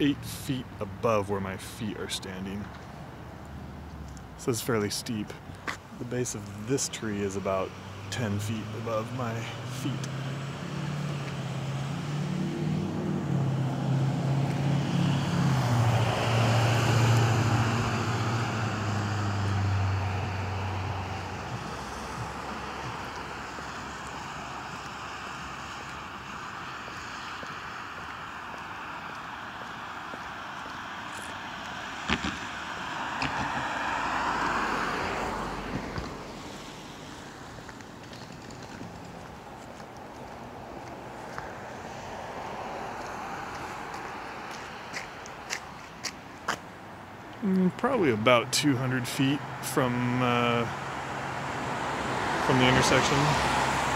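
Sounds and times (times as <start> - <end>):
vehicle engine drone: 0.0 - 53.9.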